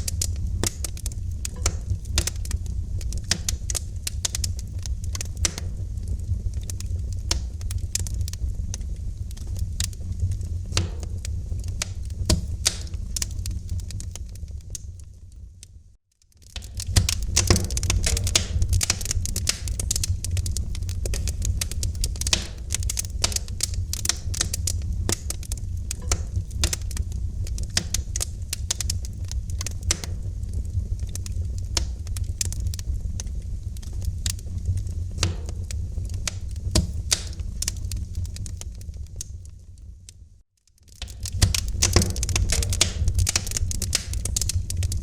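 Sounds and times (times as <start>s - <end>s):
low rumble of flames: 0.0s - 45.0s
wood fire crackling: 0.0s - 45.0s.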